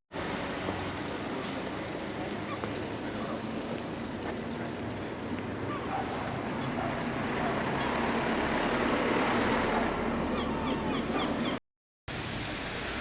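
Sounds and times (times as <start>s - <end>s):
steady outdoor rushing noise: 0.1s - 13.0s.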